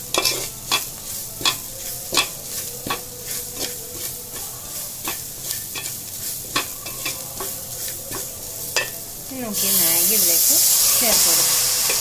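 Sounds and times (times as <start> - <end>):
frying sizzle: 0.0 - 12.0
spatula scraping metal pan: 0.0 - 12.0.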